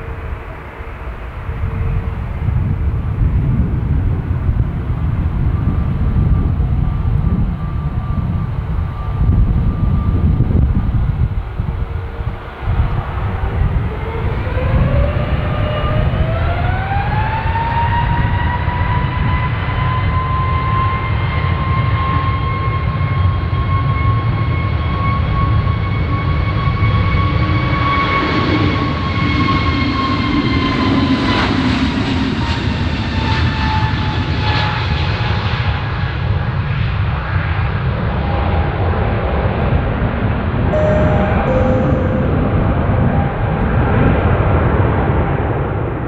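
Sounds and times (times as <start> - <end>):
jet engine whine: 0.0 - 46.0.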